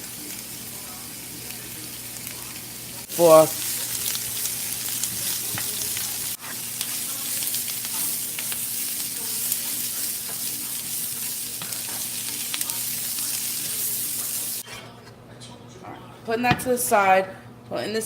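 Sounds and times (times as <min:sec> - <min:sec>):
vegetables sizzling in frying pan: 0:00.0 - 0:14.6.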